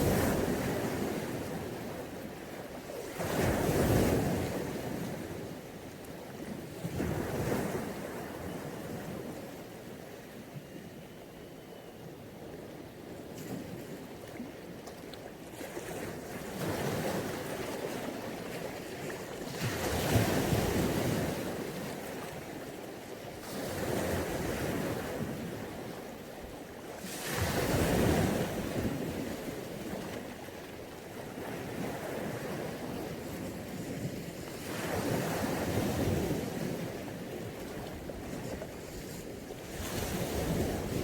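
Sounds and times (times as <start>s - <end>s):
sea waves breaking on beach: 0.0s - 9.7s, 13.3s - 41.0s.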